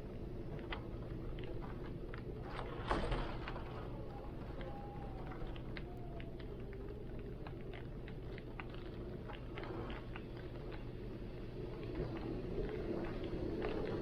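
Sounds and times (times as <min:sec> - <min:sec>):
steady rain: 0:00.0 - 0:14.0
wind: 0:00.0 - 0:14.0.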